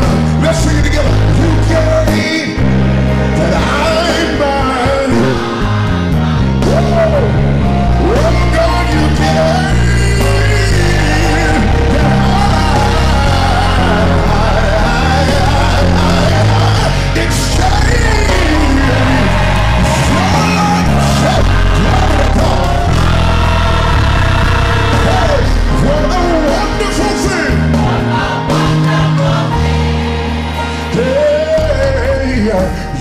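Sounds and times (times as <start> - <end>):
electric bass: 0.0 - 33.0
gospel choir singing: 0.0 - 33.0.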